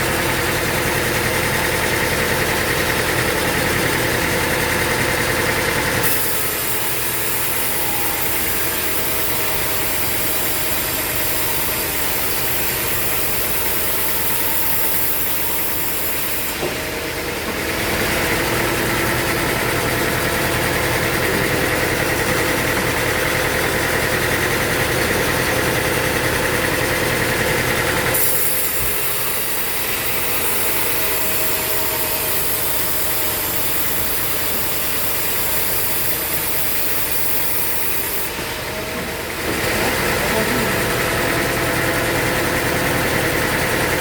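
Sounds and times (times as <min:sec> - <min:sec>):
sawmill machinery humming: 0:00.0 - 0:44.0.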